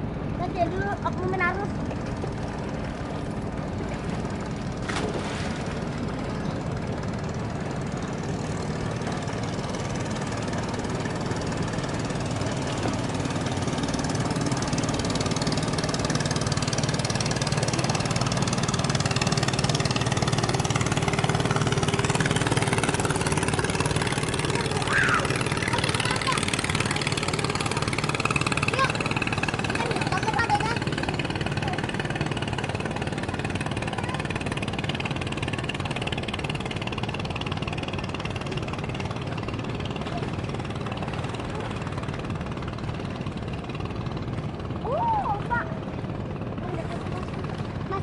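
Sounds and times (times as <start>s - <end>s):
boat engine humming: 0.0s - 48.0s.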